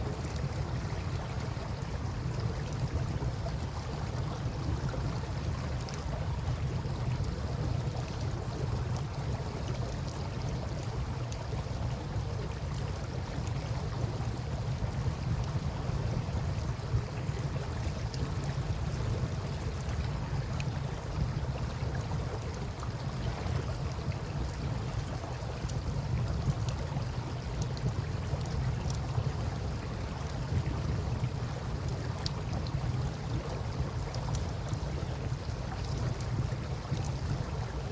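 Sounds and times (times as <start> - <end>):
flowing river water: 0.0 - 37.9.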